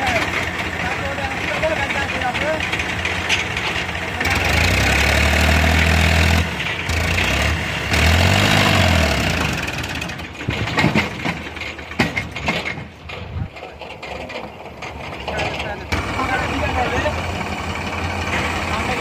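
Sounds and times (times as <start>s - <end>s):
heavy vehicle engine revving: 0.0s - 13.1s, 14.1s - 19.0s
sharp knocks and clanks: 0.0s - 17.0s.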